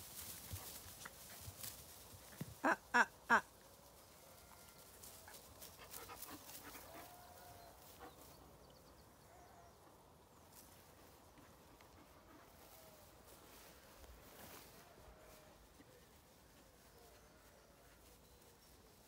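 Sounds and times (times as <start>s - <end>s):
puppies scuffling in grass: 0.0s - 2.6s, 3.8s - 8.4s, 10.4s - 19.0s.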